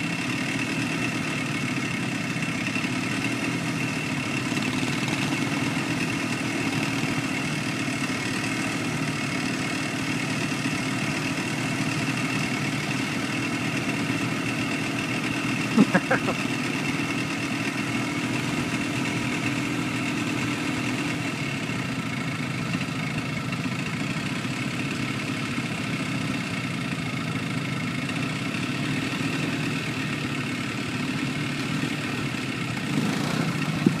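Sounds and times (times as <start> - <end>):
quad engine running steadily: 0.0 - 34.0.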